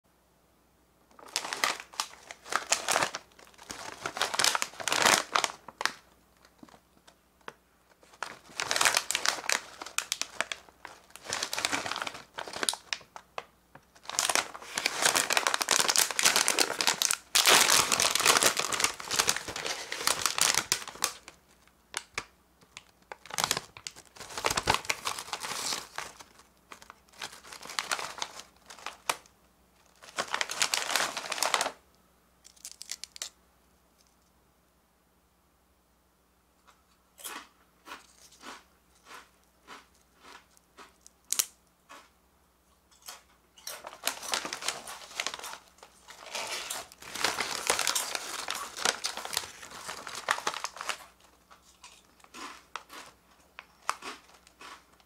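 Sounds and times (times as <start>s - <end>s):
plastic chip bags crinkling: 1.1s - 31.8s, 32.4s - 33.4s, 37.2s - 42.1s, 43.1s - 55.0s.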